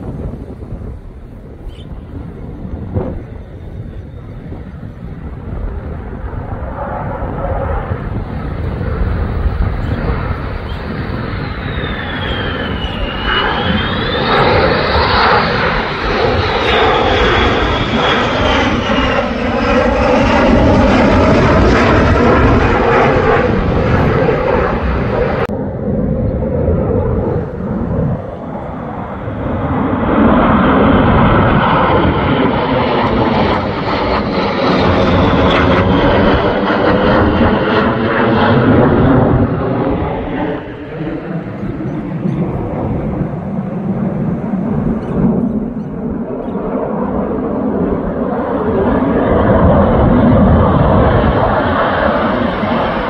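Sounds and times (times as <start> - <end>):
jet engine whine: 0.0 - 53.0.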